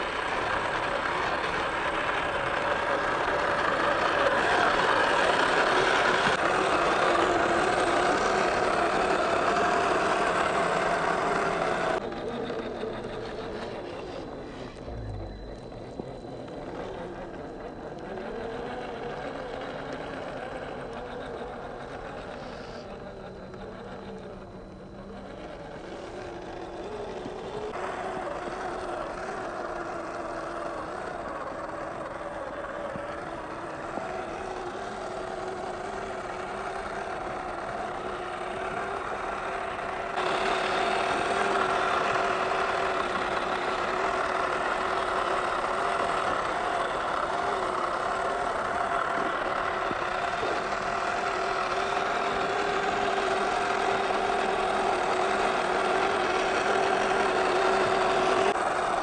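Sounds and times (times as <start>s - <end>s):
electric motor and gearbox whining: 0.0s - 59.0s.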